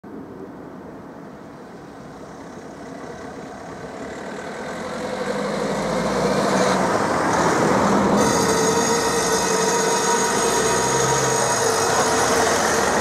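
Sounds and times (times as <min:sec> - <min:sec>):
car passing by: 0:01.6 - 0:13.0.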